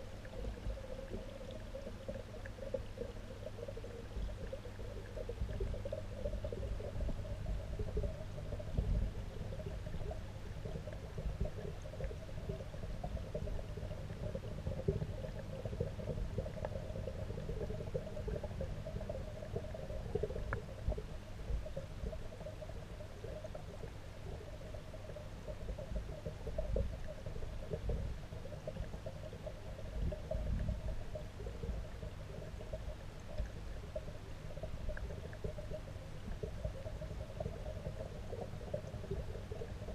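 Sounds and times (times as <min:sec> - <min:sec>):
faint underwater gurgling: 0:00.0 - 0:39.9
muffled underwater rumble and hum: 0:00.0 - 0:39.9.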